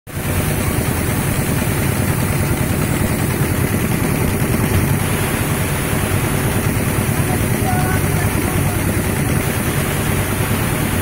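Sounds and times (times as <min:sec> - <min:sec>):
thresher running: 0:00.1 - 0:11.0.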